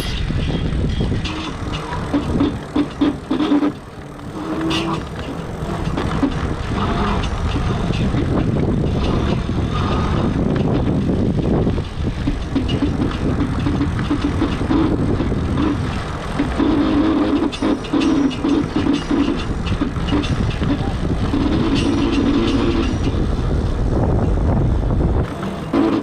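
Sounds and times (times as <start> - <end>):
e-bike hub motor running: 0.0 - 26.0
pulsing hum: 0.0 - 26.0
road and wind noise: 0.0 - 26.0.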